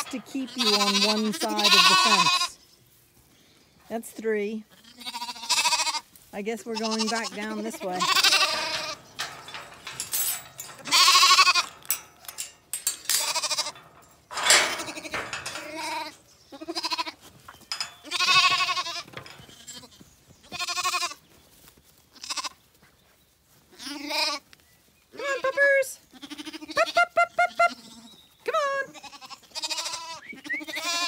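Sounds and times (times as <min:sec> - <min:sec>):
lambs bleating: 0:00.0 - 0:02.6, 0:04.7 - 0:21.2, 0:22.1 - 0:22.6, 0:23.7 - 0:24.4, 0:25.2 - 0:31.0.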